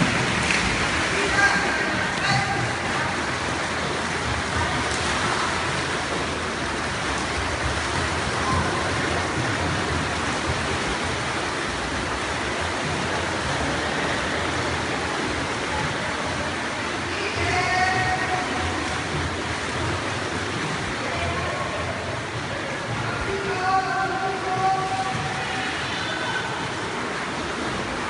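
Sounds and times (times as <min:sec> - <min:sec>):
children splashing in pool: 0:00.0 - 0:28.0.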